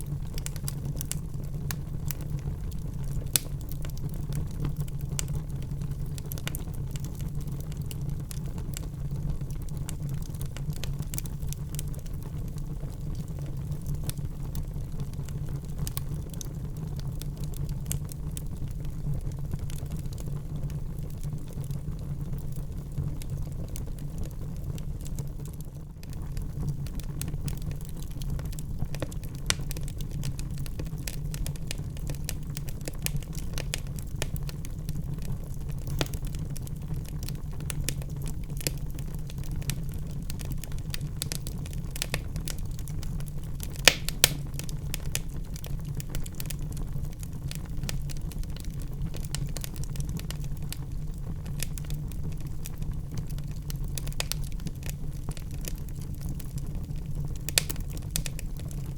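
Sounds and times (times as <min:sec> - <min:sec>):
fire crackling: 0:00.0 - 0:58.9
fire flames rumbling: 0:00.0 - 0:58.9
wood fire popping: 0:00.0 - 0:58.9.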